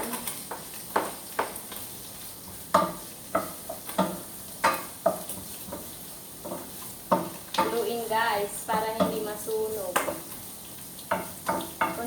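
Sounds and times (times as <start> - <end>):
oil sizzling: 0.0 - 12.0
spatula knocking and scraping pan: 0.4 - 1.9, 2.6 - 10.4, 11.0 - 12.0.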